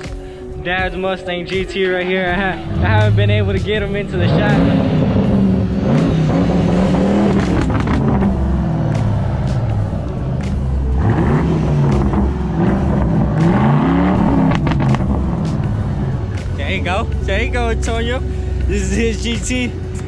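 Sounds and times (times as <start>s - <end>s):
car engine revving: 2.3s - 20.0s.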